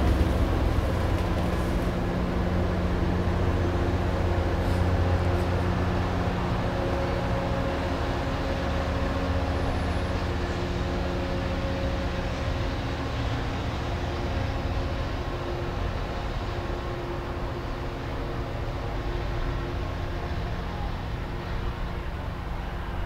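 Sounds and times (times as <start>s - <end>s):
diesel train engine drone: 0.0s - 23.0s
train rumble: 0.0s - 23.0s.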